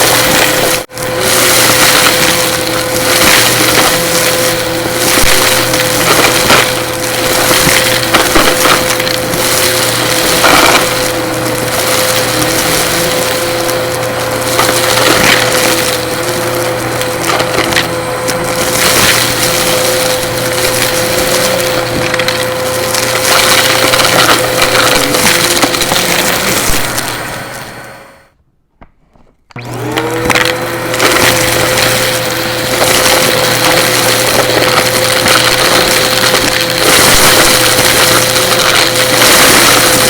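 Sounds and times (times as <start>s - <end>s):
debris crackling through vacuum hose: 0.0s - 28.1s, 28.9s - 40.0s
vacuum cleaner motor whine: 0.0s - 28.4s, 29.5s - 40.0s.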